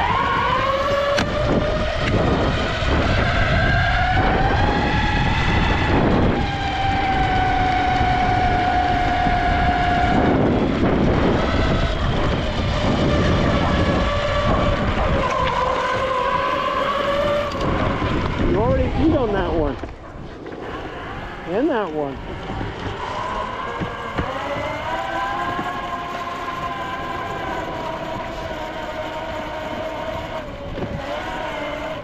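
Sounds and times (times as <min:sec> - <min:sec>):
electric skateboard motor whine: 0:00.0 - 0:32.0
wheels rumbling on pavement: 0:00.0 - 0:32.0.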